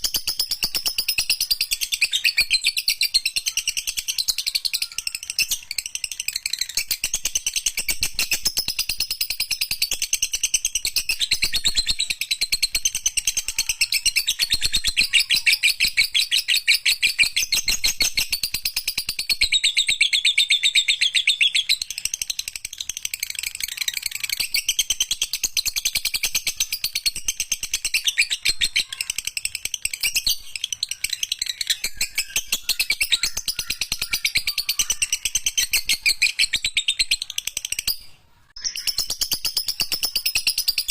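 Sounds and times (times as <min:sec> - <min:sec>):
lovebird chattering trill: 0:00.0 - 0:40.9.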